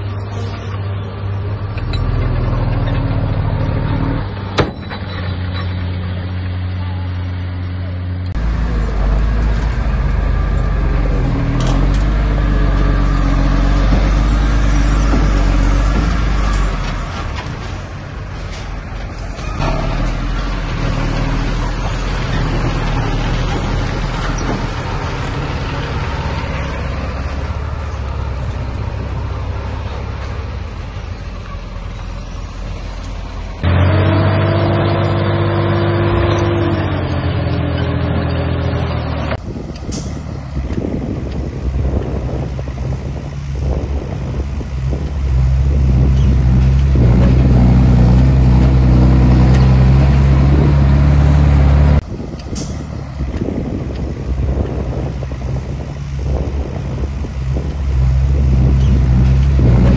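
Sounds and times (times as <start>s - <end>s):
heavy diesel engines running: 0.0s - 59.9s
loud engine drone: 0.0s - 59.9s.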